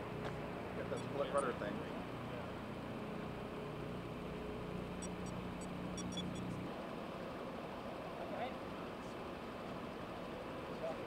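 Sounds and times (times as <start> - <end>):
jet engines low hum: 0.0 - 11.0.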